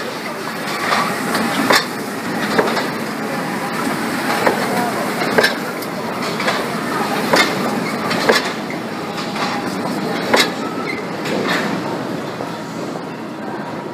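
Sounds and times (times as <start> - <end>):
sharp clacks of train wheels: 0.0 - 12.1
train rumbling past: 0.0 - 13.9.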